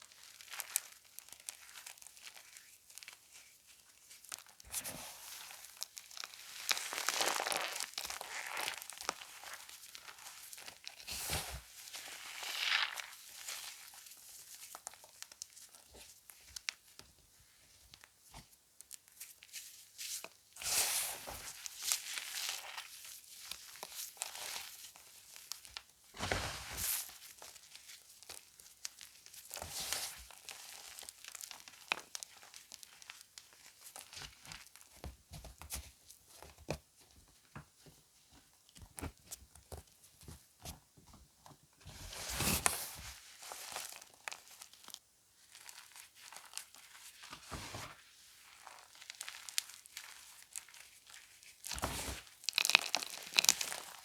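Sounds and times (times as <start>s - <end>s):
chalk crunching and crumbling: 0.1s - 16.4s, 19.1s - 34.9s, 42.2s - 54.0s.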